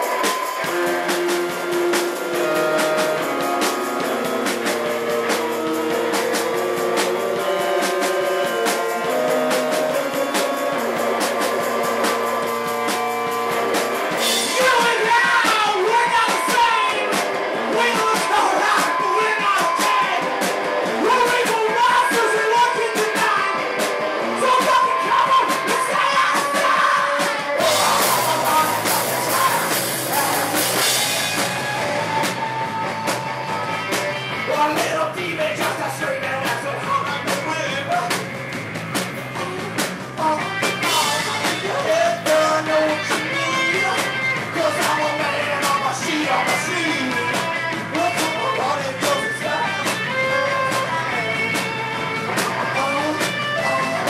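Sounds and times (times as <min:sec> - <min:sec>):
man singing: 0:00.0 - 0:31.8, 0:34.4 - 0:38.3, 0:40.1 - 0:51.6, 0:52.3 - 0:54.0
live rock band playing: 0:00.0 - 0:54.0.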